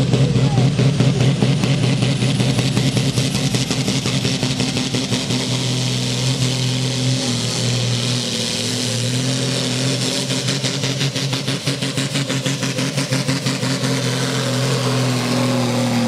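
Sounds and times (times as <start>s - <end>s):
diesel engine revving hard: 0.0s - 16.0s.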